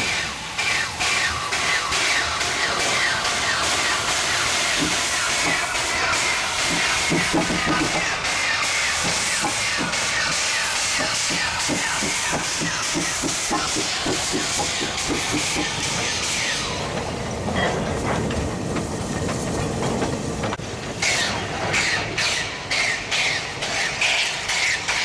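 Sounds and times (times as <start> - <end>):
hissing steam: 0.0 - 25.0
steam locomotive exhaust chuffs: 0.0 - 25.0.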